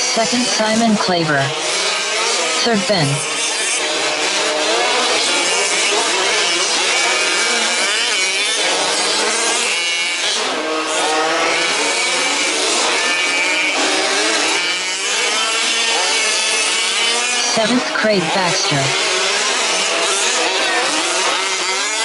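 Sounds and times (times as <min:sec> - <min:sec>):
small two-stroke engines revving: 0:00.0 - 0:22.0.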